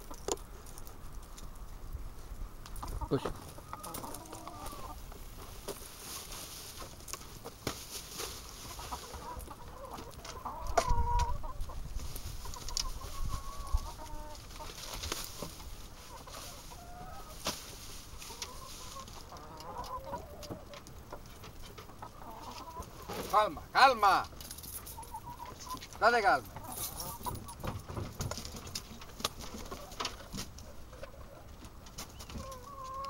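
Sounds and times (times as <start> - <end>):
hens clucking: 0.0 - 33.0.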